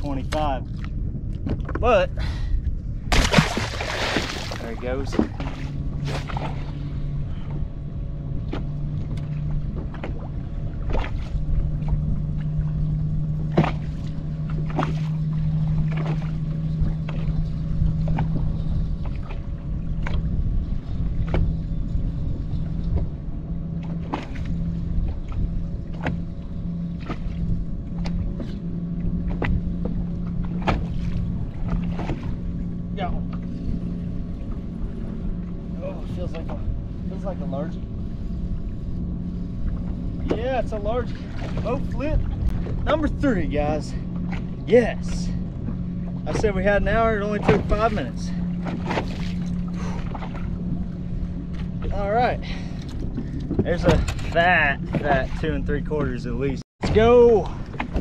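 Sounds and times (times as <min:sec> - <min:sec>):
wind and water noise: 0:00.0 - 0:58.0
electric trolling motor humming: 0:03.1 - 0:56.6.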